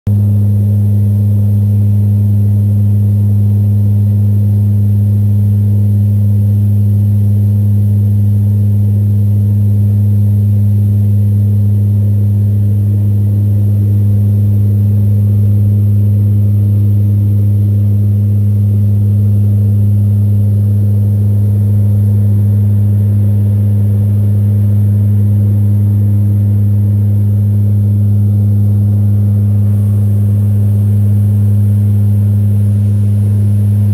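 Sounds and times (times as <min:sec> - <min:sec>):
aircraft cabin propeller drone: 0:00.1 - 0:33.9.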